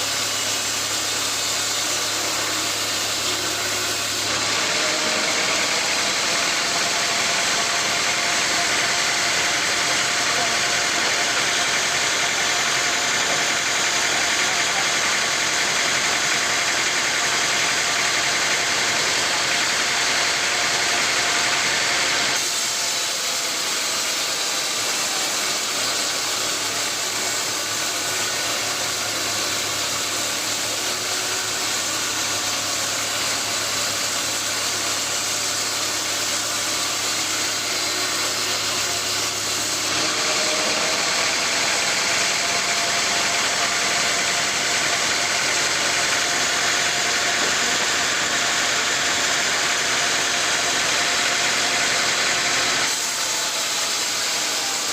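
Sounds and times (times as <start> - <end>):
sawmill machinery humming: 0.0 - 54.9.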